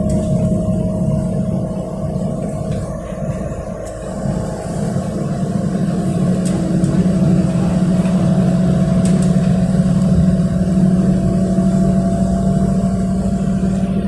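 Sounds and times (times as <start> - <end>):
bus engine drone from inside: 0.0 - 14.0.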